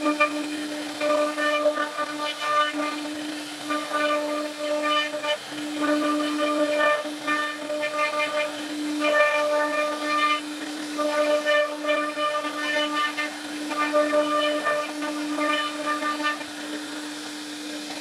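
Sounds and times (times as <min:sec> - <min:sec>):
bit cutting wood: 0:00.0 - 0:18.0
router spindle whining: 0:00.0 - 0:18.0.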